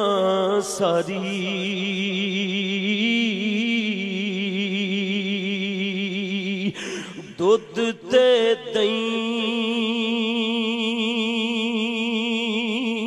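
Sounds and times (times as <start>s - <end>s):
man singing a long note: 0.0s - 13.0s.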